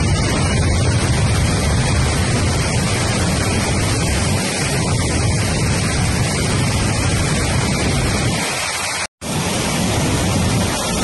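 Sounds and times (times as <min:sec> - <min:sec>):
rushing churning water: 0:00.0 - 0:11.0.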